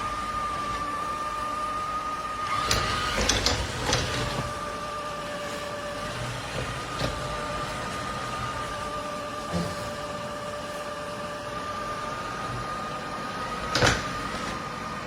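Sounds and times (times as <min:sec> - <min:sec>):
robot vacuum motor whine: 0:00.0 - 0:15.0.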